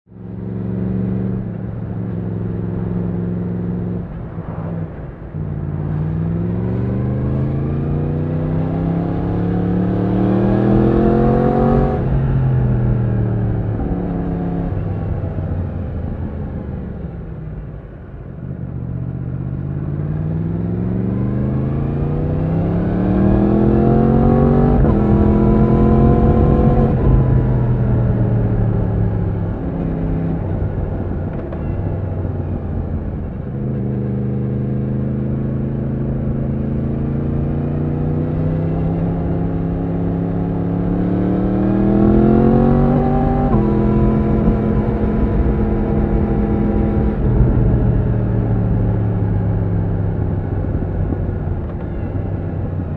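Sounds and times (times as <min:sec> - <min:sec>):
motorcycle engine revving: 0:05.4 - 0:15.7, 0:19.6 - 0:52.9.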